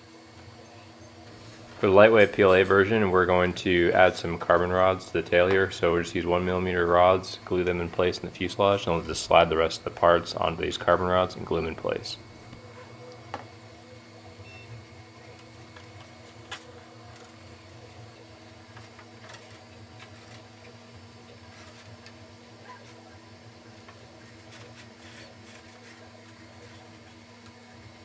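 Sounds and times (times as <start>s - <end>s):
three-d printer humming: 0.0s - 28.0s.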